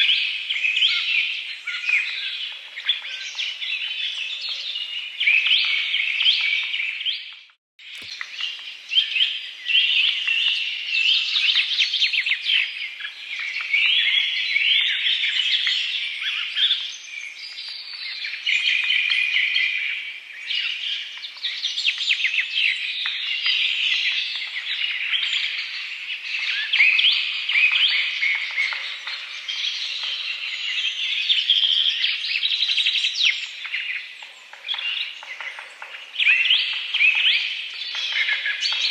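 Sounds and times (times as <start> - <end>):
chorus of birds chirping: 0.0 - 38.9.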